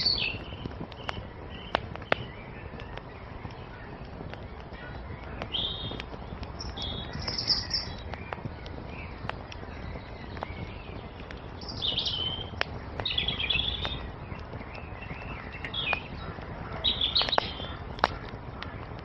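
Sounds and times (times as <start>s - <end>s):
songbird twittering: 0.0s - 19.0s
wood fire crackling and popping: 0.0s - 19.0s.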